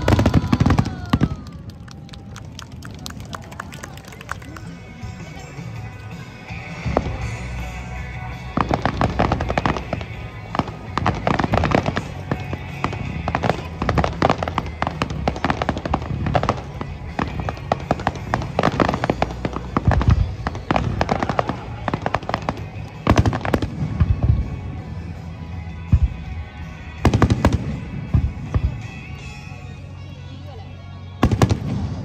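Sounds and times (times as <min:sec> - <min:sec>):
fireworks crackling and popping: 0:00.0 - 0:29.5, 0:31.2 - 0:32.0
music: 0:00.0 - 0:32.0.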